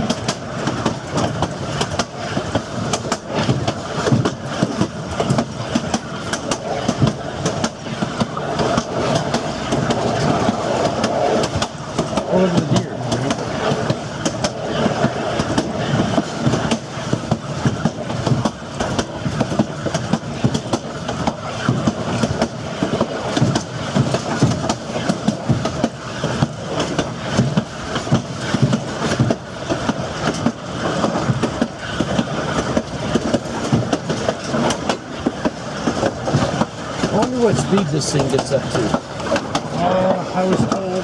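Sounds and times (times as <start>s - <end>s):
train wheels clattering on rails: 0.0s - 41.0s.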